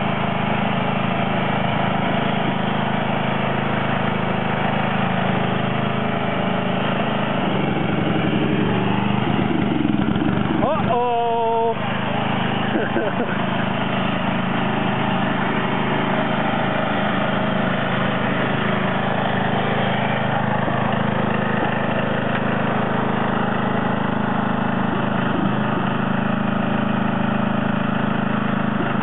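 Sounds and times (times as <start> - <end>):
lawn tractor engine running: 0.0 - 29.0.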